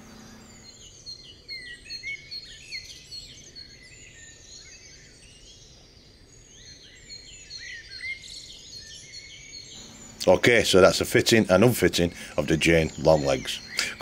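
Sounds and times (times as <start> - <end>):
birds singing and chirping: 0.0 - 14.0
outdoor background hiss: 0.0 - 14.0.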